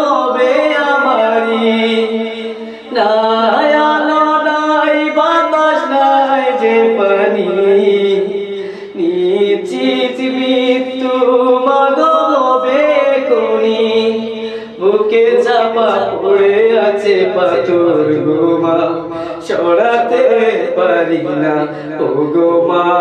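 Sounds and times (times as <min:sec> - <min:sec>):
man singing unaccompanied: 0:00.0 - 0:23.0.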